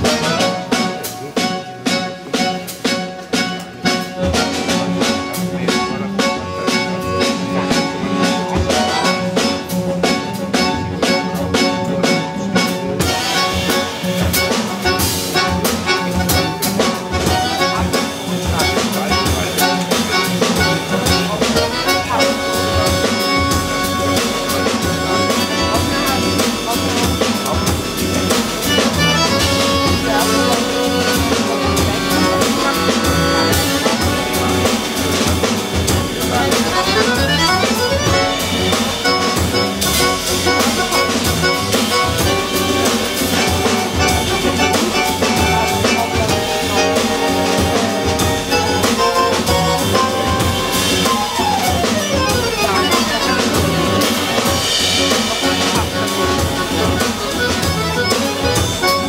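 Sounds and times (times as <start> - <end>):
drum kit: 0.0 - 59.0
klezmer band playing: 0.0 - 59.0.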